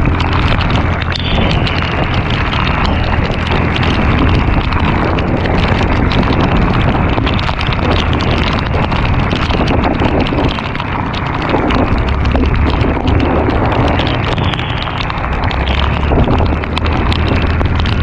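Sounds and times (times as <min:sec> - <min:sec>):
heavy rain on wet road: 0:00.0 - 0:18.0
wind buffeting microphone: 0:00.0 - 0:18.0.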